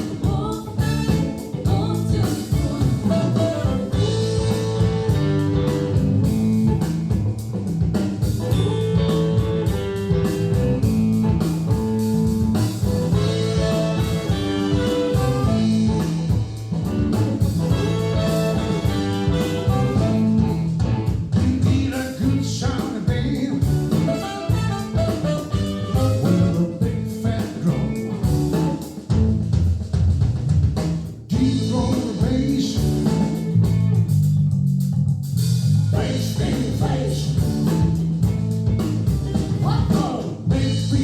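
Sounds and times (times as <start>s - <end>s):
guitar and drum music: 0.0s - 41.0s.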